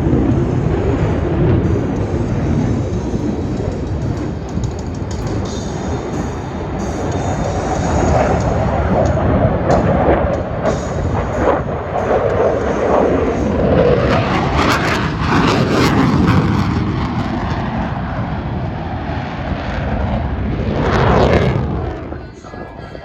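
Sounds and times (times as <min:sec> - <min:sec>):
jet passing: 0:00.0 - 0:23.0.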